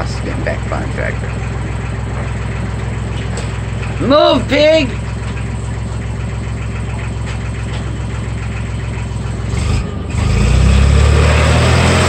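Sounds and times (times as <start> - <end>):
tractor engine idling: 0.0 - 10.6.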